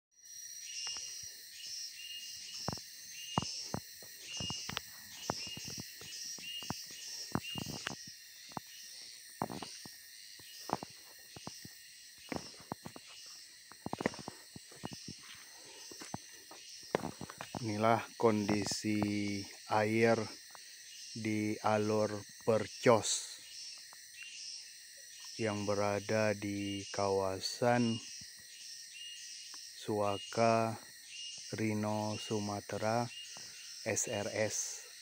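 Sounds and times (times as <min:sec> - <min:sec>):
insects trilling: 0:00.2 - 0:35.0.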